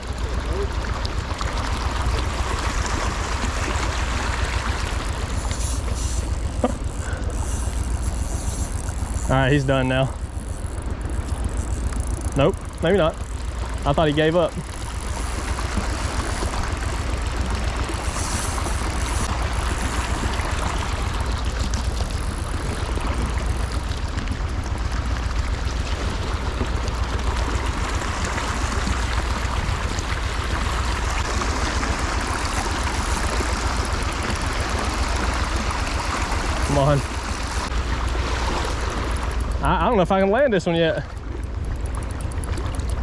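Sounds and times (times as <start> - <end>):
creek water flowing: 0.0 - 43.0.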